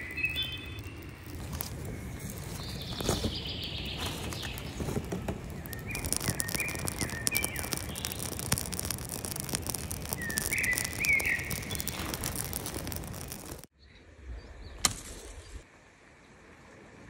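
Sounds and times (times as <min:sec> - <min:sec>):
fire crackling: 0:00.0 - 0:13.7
songbird chirping: 0:00.0 - 0:15.6.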